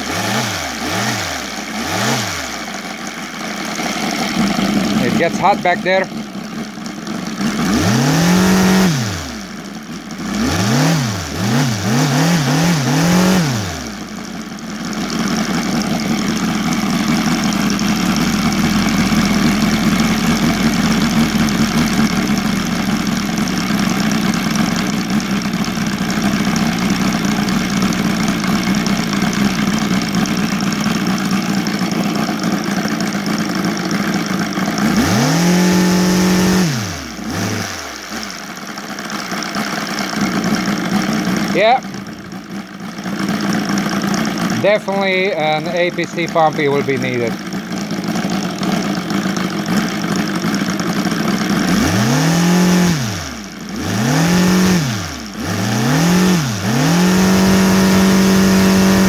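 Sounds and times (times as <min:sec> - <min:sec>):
radial engine revving: 0:00.0 - 0:49.0, 0:51.4 - 0:59.0.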